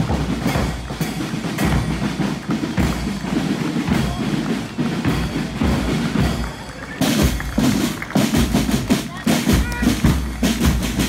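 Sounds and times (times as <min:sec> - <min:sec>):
drums beating: 0:00.0 - 0:11.0
marching band playing: 0:00.0 - 0:11.0.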